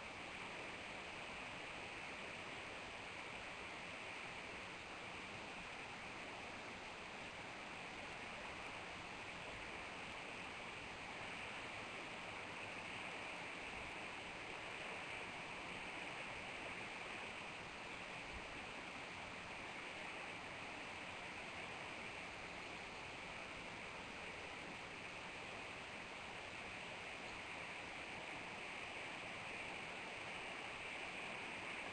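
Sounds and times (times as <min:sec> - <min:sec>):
steady high hiss: 0:00.0 - 0:31.9.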